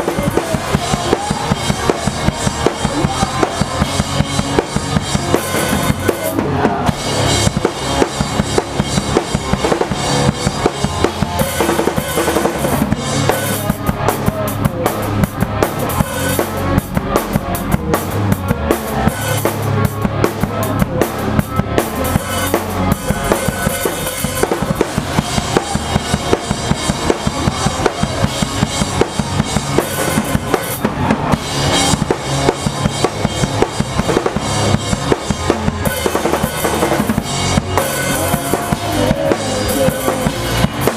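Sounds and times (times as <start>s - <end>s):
bass drum and snare beat: 0.0s - 40.9s
pop-punk band playing live: 0.0s - 40.9s.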